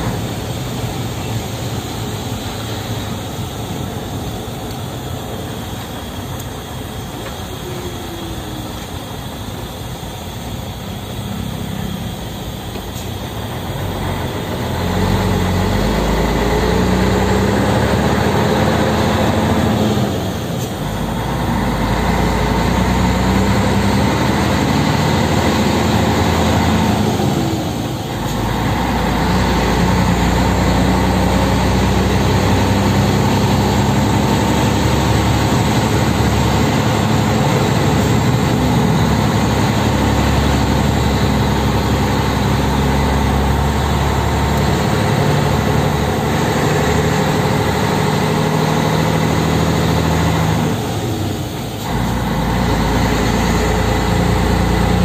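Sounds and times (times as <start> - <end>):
diesel engine under heavy load: 0.0 - 55.0.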